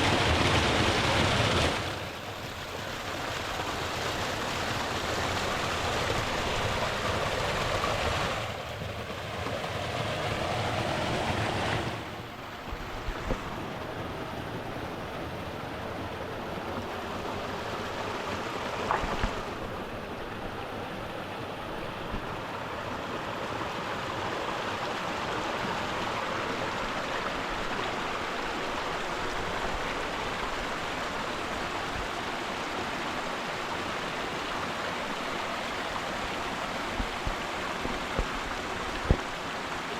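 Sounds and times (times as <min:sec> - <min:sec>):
mountain stream over rocks: 0:00.0 - 0:39.9.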